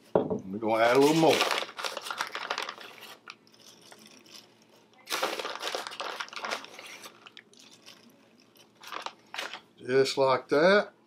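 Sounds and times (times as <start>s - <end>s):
plastic bag crinkling: 0.8s - 9.7s.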